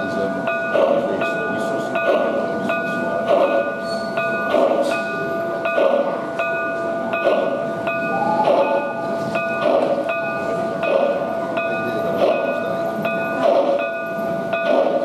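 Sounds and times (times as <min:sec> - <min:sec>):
model steam locomotive chuffs: 0:00.0 - 0:15.0
steady whine: 0:00.0 - 0:15.0.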